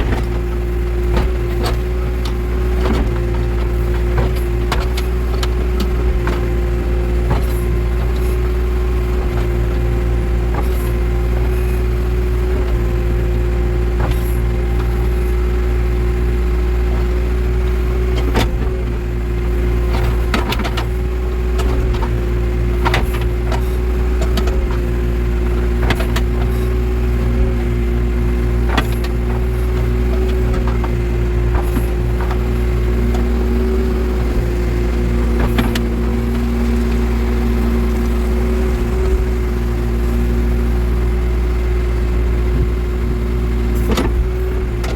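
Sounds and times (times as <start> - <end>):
machine knocks and clanks: 0.0 - 15.8, 19.6 - 40.2, 43.8 - 44.9
diesel engine running: 0.0 - 44.9.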